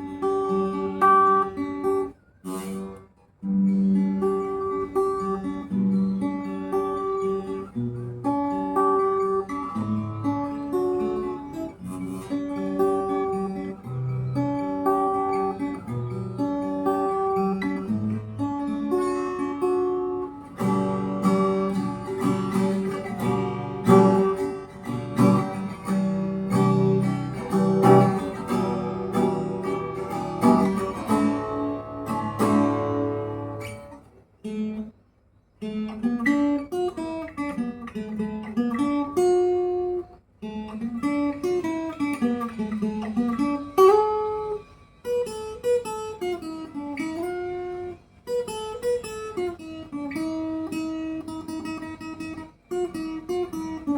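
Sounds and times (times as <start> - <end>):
picked guitar melody: 0.0 - 53.9
strummed guitar chords: 0.0 - 53.9.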